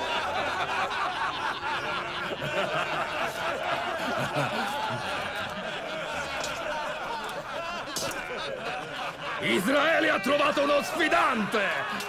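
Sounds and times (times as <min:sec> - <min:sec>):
crowd of men laughing: 0:00.0 - 0:12.0.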